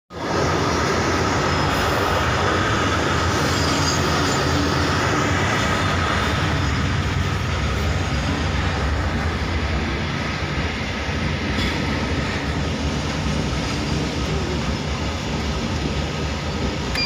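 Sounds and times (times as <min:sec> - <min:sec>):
freight train wheels on rails: 0:00.1 - 0:17.0.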